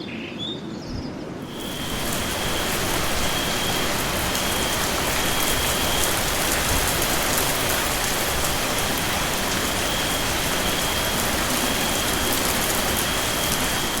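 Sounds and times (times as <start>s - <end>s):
steady rain falling: 1.5s - 14.0s.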